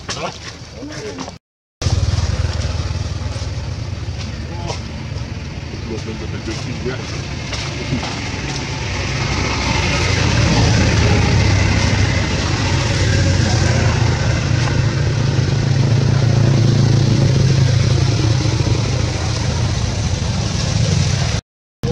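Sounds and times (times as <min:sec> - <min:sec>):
low engine drone: 0:01.8 - 0:21.9.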